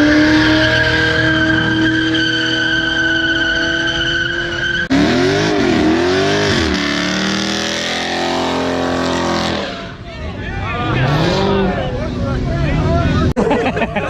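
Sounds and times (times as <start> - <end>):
car engine revving: 0.0 - 10.0, 10.7 - 13.3.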